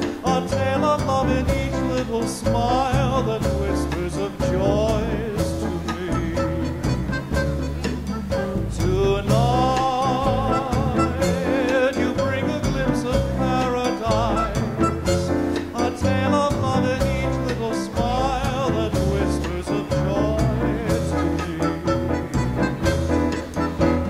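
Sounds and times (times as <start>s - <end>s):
dance orchestra playing: 0.0s - 24.0s.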